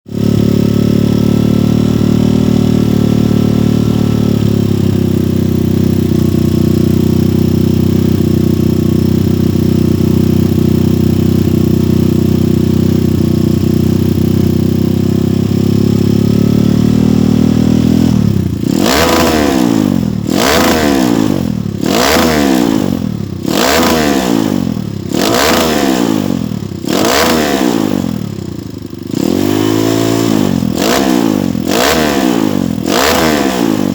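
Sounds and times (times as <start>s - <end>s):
dirt bike engine idling: 0.1s - 33.9s
dirt bike throttle blips: 0.1s - 33.9s.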